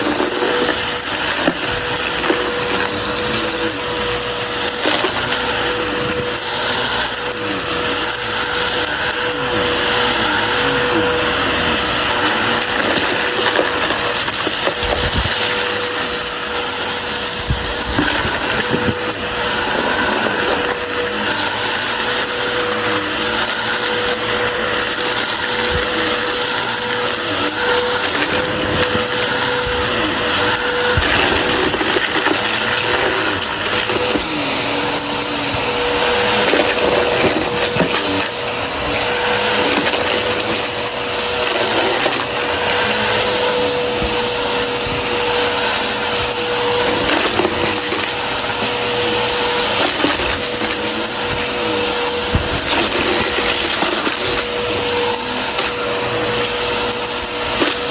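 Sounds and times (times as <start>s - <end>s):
debris crackling and rattling: 0.0s - 57.9s
vacuum cleaner whine: 0.0s - 57.9s.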